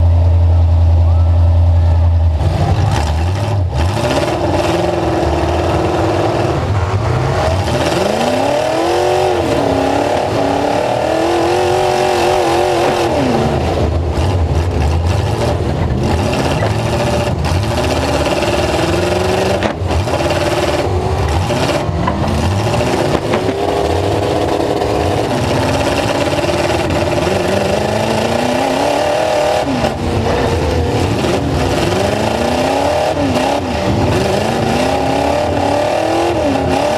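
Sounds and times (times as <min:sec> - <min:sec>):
pickup truck engine revving: 0:01.7 - 0:36.9.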